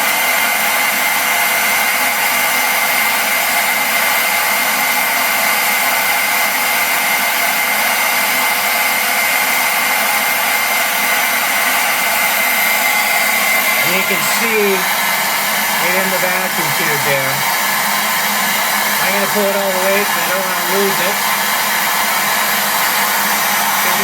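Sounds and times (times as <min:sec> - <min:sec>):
vacuum cleaner whining: 0:00.0 - 0:24.0.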